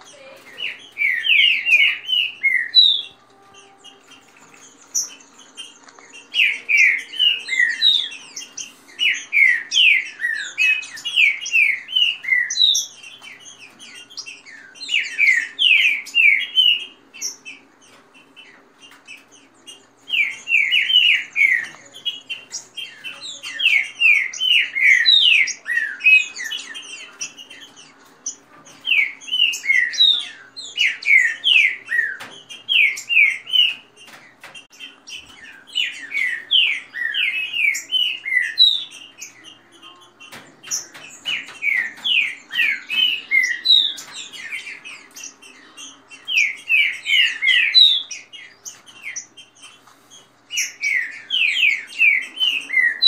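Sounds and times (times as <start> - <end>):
birds singing whistled notes: 0.0 - 53.0.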